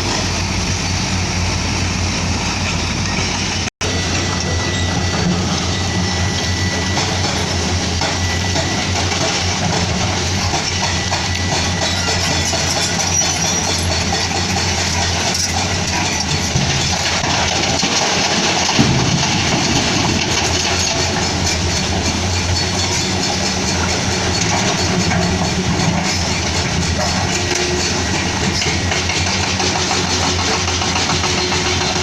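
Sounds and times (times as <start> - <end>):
excavator diesel engine drone: 0.0 - 32.0.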